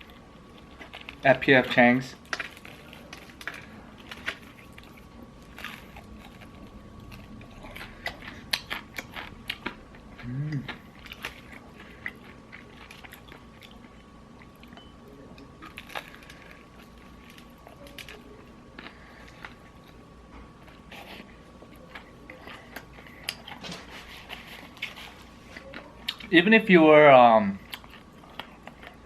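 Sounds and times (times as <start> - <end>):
crunching fried chicken: 0.0 - 26.4.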